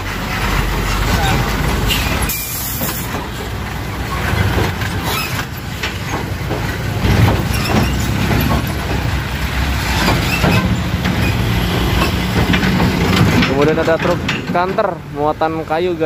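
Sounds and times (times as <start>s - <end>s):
clunks and rattles over rails: 0.0s - 16.0s
diesel truck engines: 0.0s - 16.0s.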